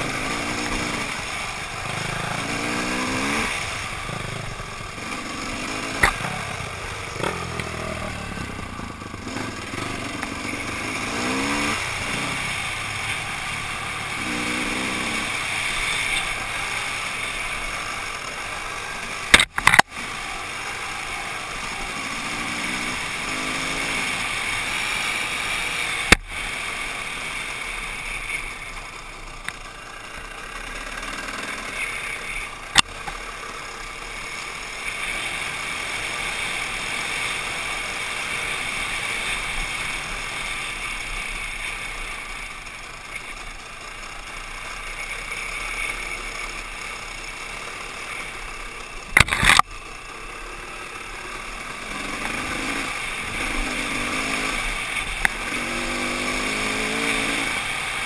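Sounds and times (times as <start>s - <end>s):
dirt bike engine revving: 0.0s - 28.3s, 30.0s - 42.4s, 44.1s - 58.0s.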